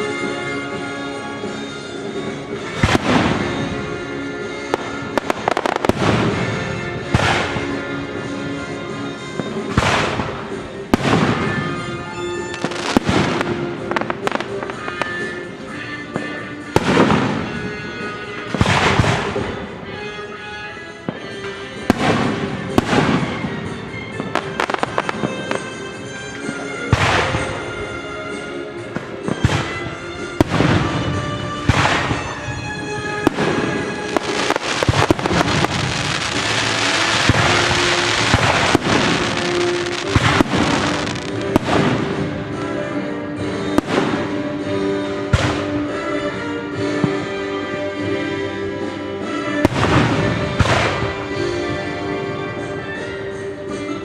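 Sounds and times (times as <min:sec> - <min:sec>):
orchestral music: 0:00.0 - 0:54.0
fireworks crackling: 0:01.2 - 0:46.0
fireworks bursting: 0:01.4 - 0:08.4, 0:09.2 - 0:20.1, 0:21.1 - 0:27.9, 0:28.8 - 0:45.9, 0:49.6 - 0:51.8.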